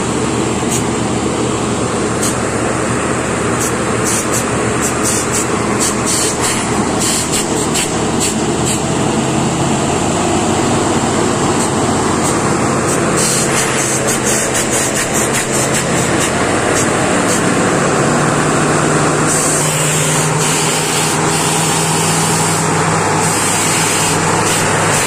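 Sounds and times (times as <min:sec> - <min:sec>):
air compressor running: 0:00.0 - 0:25.0
drilling rig engine: 0:00.0 - 0:25.0.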